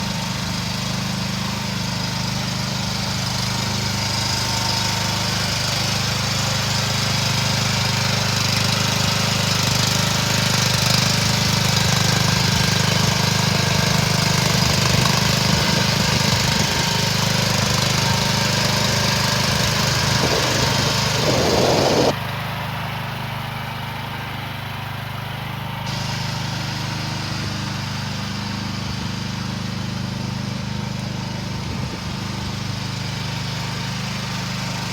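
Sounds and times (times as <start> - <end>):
petrol engine running: 0.0 - 34.9.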